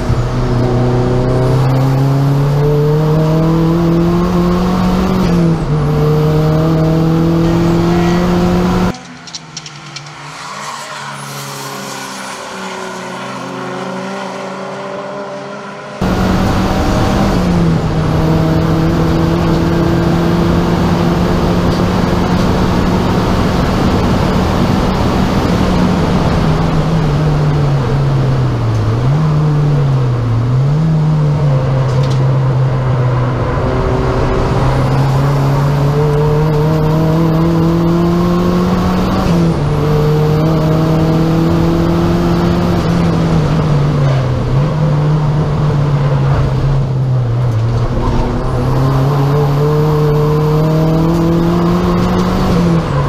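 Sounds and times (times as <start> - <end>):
race car engine running hard: 0.0 - 10.3, 13.9 - 53.0.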